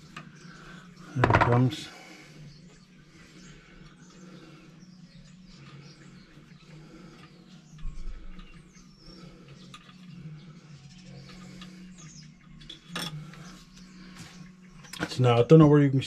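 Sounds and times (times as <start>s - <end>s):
low steady hum: 0.0s - 16.0s
small birds chirping: 0.0s - 16.0s.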